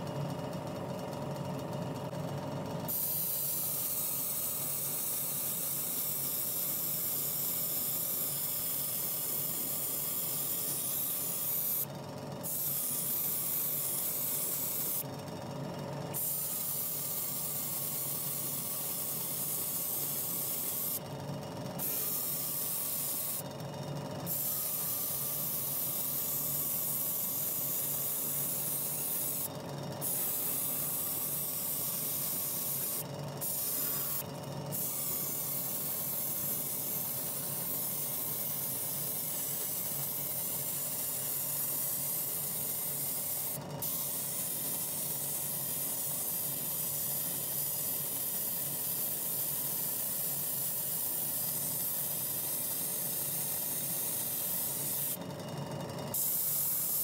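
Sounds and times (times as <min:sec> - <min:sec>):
paint spray gun hissing: 0:02.9 - 0:15.0, 0:16.1 - 0:21.0, 0:21.8 - 0:23.4, 0:24.3 - 0:55.2, 0:56.1 - 0:57.0.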